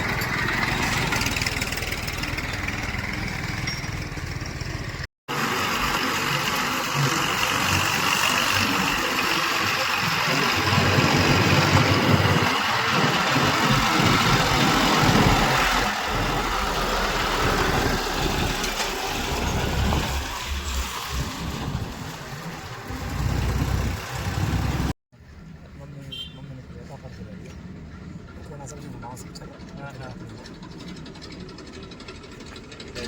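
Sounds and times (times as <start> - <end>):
diesel engine running: 0.0 - 25.9, 27.2 - 33.0.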